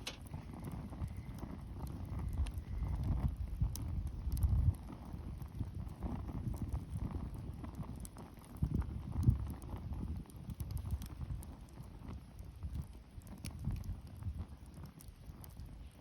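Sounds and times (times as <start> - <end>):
bonfire crackling and popping: 0.0 - 16.0
low rumble of burning: 0.0 - 16.0.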